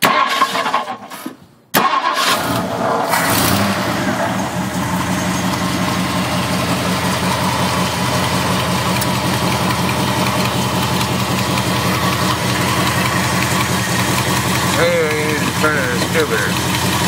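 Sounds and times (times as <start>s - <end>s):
engine idling: 3.2s - 17.0s.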